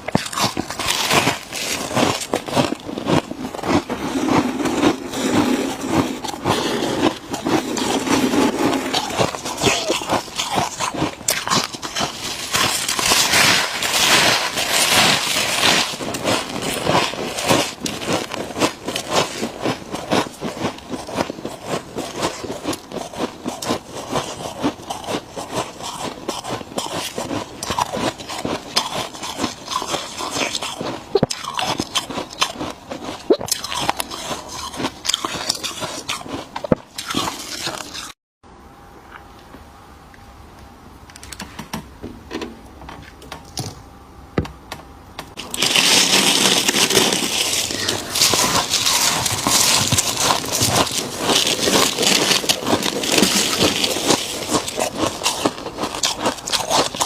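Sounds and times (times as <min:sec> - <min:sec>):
chewing crunchy frost: 0:00.0 - 0:38.2, 0:45.3 - 0:57.0.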